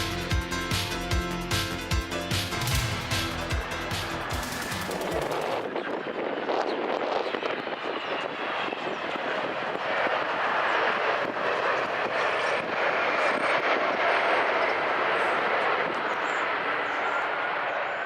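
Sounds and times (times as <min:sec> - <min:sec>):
jet airliner roar: 0:00.0 - 0:18.0.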